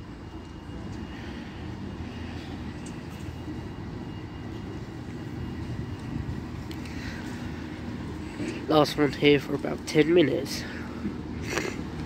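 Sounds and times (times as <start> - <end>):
diesel train engine rumble: 0.0 - 12.0.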